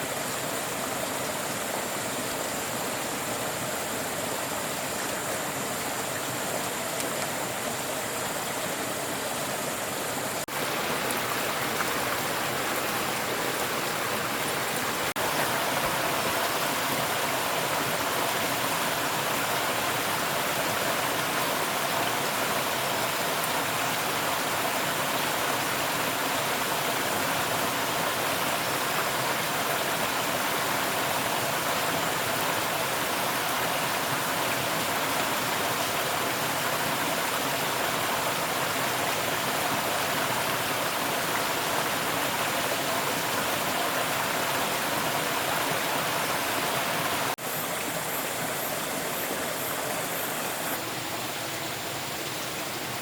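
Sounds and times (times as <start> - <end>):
water rushing: 0.0 - 53.0.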